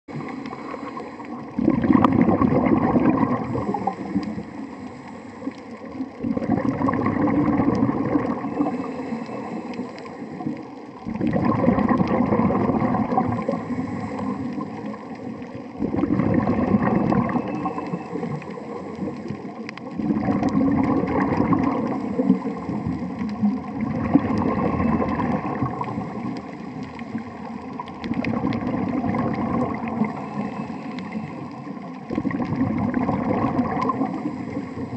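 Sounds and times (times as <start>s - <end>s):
diver exhaling bubbles: 0.1s - 34.9s.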